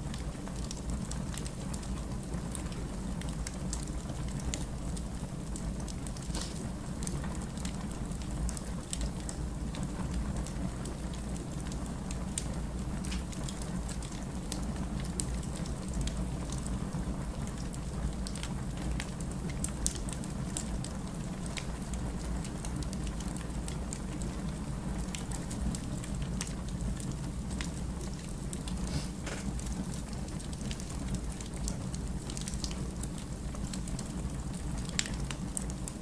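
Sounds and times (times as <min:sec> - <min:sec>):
firewood crackling and popping: 0:00.1 - 0:36.0.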